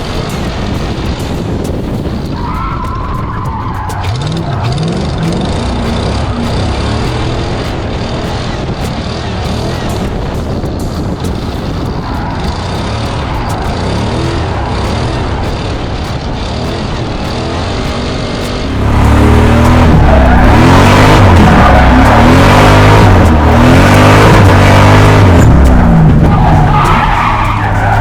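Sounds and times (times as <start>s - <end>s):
car engine revving: 0.0s - 28.0s
tyres skidding: 0.0s - 28.0s.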